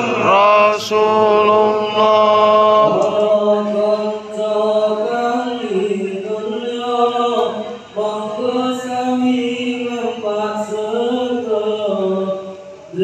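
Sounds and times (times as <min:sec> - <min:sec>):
men chanting: 0:00.0 - 0:13.0.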